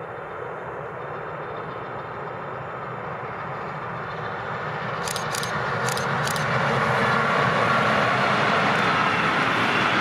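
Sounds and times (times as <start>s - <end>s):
train approaching: 0.0s - 10.0s.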